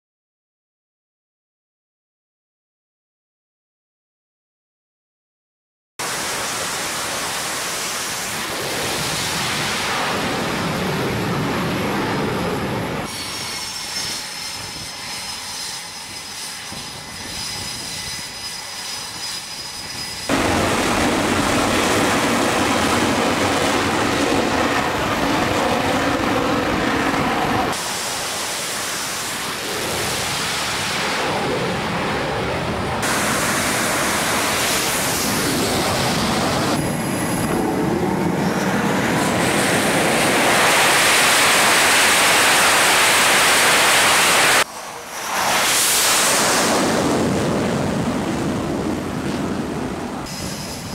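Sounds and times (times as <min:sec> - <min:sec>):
jet engine roar: 0:06.0 - 0:50.9
jet engine whine: 0:06.0 - 0:50.9
turboprop engines: 0:06.0 - 0:50.9.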